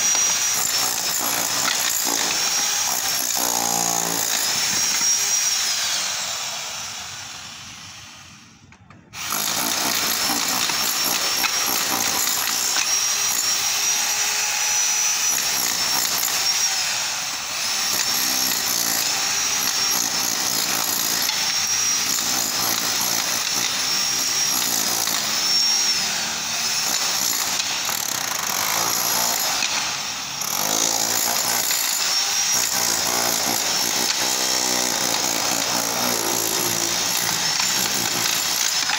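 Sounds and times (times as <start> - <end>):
demolition hammer chipping plaster: 0.0 - 5.6, 9.2 - 16.8, 17.6 - 38.9.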